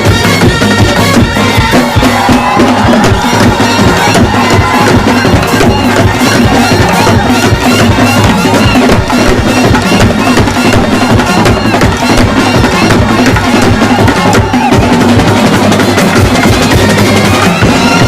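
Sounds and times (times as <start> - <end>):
fast dense drumming: 0.0 - 18.0
live band music: 0.0 - 18.0.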